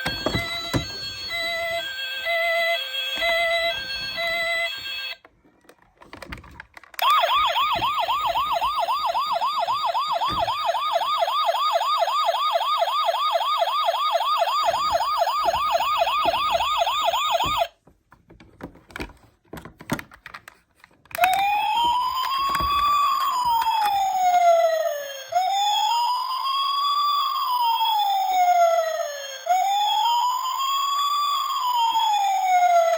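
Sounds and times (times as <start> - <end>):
toy electronic siren: 0.0 - 5.3, 7.0 - 17.7, 21.2 - 32.9.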